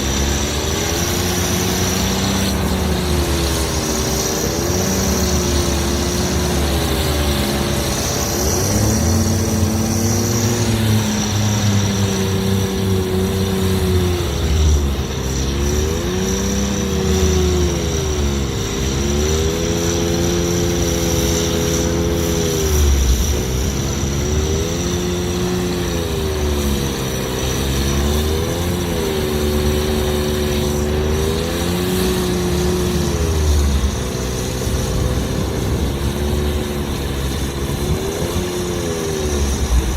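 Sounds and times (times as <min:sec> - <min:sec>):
steady high whine: 0:00.0 - 0:39.9
tractor diesel engine running hard: 0:00.0 - 0:39.9.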